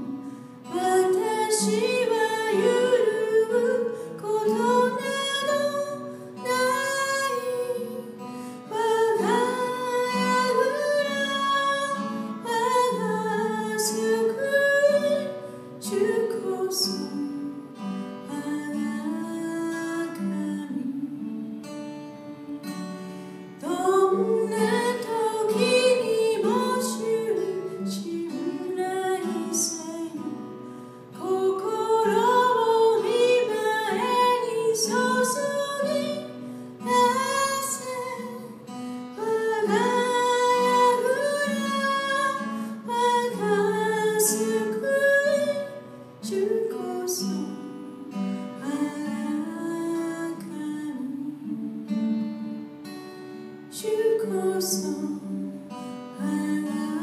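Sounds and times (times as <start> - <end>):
woman singing: 0.0 - 52.6, 53.3 - 57.0
acoustic guitar: 0.0 - 57.0.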